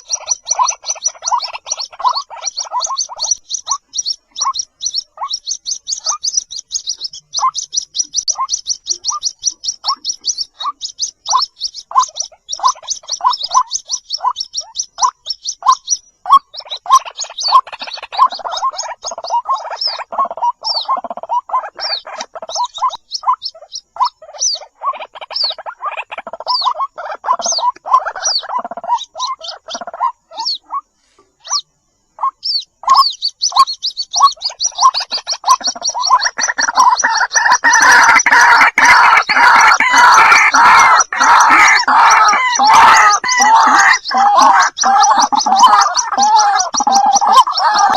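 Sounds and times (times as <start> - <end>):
waterhen croaking calls: 0.0 - 47.9.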